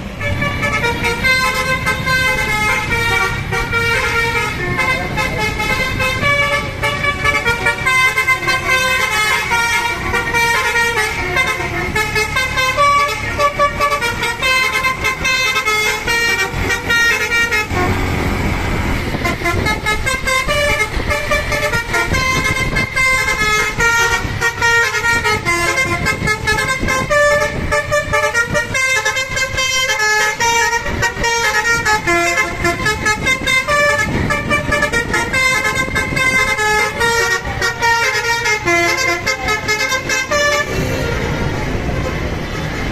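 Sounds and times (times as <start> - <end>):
melodic bus air horn: 0.0 - 42.9.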